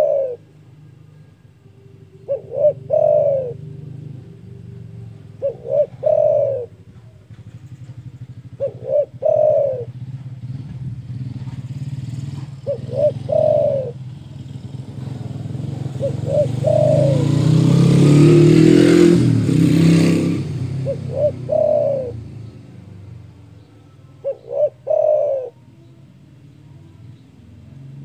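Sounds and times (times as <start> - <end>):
dove cooing: 0.0 - 28.0
vehicle engine running: 0.0 - 28.0.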